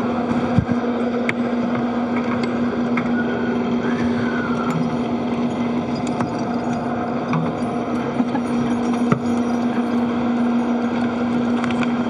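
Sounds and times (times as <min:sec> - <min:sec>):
steady low hum: 0:00.0 - 0:12.0
ventilation fans hissing: 0:00.0 - 0:12.0.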